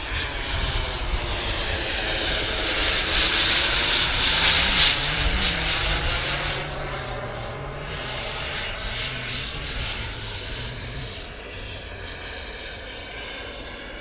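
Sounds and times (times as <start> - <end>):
model jet flying overhead: 0.0 - 14.0.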